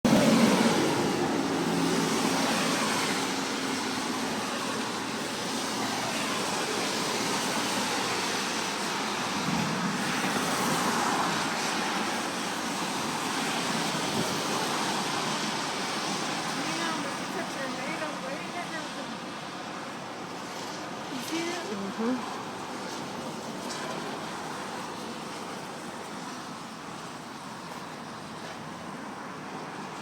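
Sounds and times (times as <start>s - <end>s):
passing cars: 0.1s - 30.0s.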